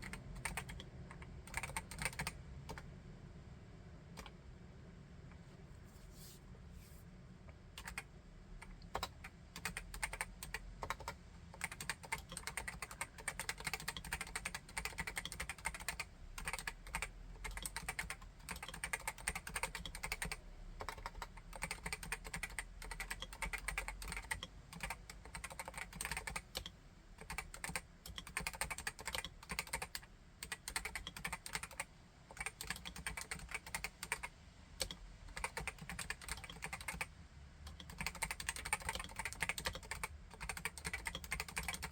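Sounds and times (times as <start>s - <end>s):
fast keyboard typing: 0.0s - 2.8s, 7.8s - 37.1s, 37.7s - 41.9s.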